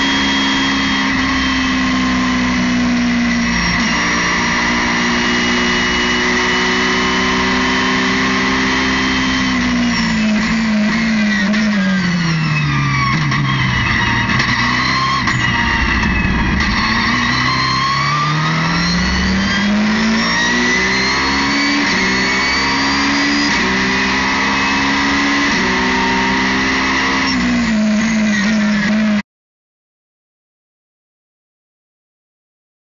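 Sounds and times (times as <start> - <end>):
race car engine revving: 0.0 - 29.2.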